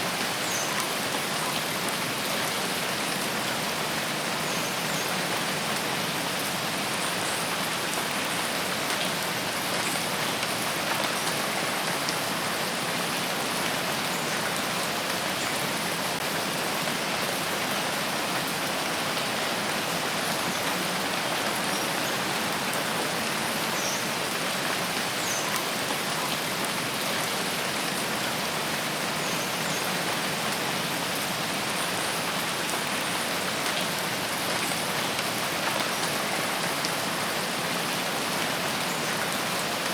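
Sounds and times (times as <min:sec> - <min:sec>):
steady rainfall in a forest: 0:00.0 - 0:39.9.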